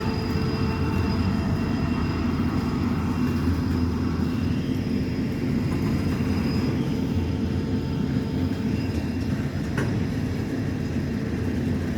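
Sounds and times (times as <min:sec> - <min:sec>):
diesel locomotive engine drone: 0:00.0 - 0:11.9.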